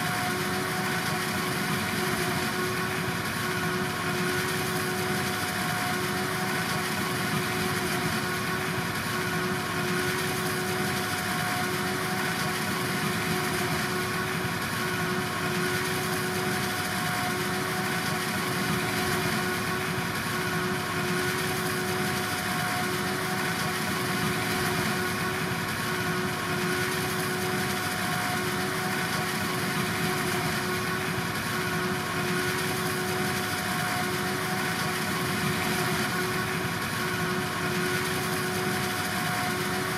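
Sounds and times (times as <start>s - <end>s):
harvesting machinery engine: 0.0s - 39.9s.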